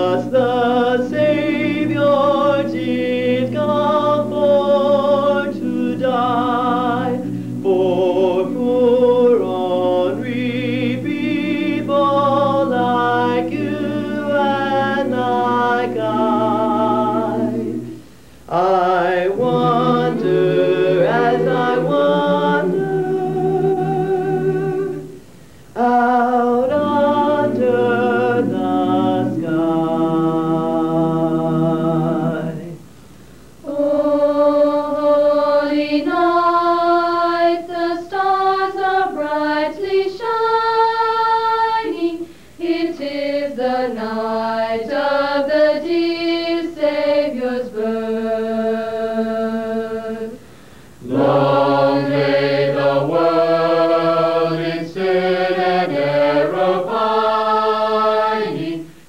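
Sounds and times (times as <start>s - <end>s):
a cappella choir singing: 0.0s - 59.0s.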